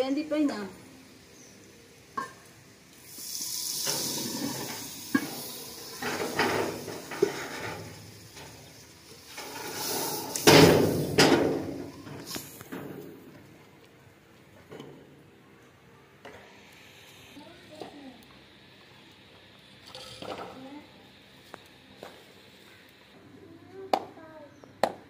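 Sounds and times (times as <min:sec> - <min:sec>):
food sizzling in a pot: 0:00.0 - 0:13.3, 0:16.3 - 0:23.2.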